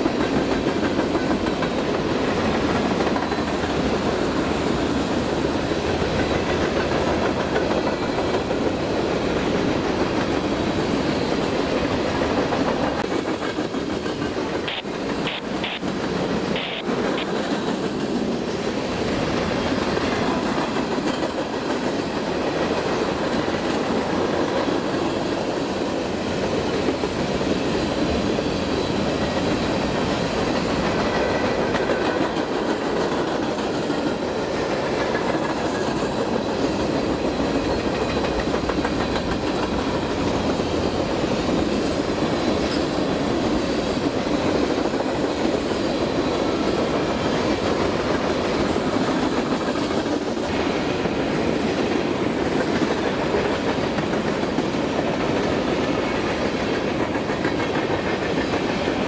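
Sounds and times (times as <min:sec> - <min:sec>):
freight train cars rolling: 0:00.0 - 0:59.0.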